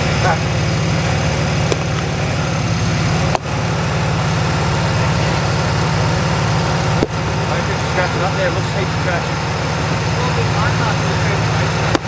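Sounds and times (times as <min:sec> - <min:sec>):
engine rumbling at low revs: 0:00.0 - 0:12.0.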